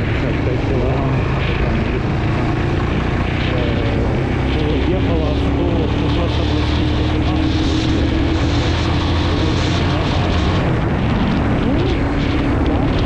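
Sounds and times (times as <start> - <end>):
motorcycle engine running: 0.0 - 13.0
wind and road rumble: 0.0 - 13.0.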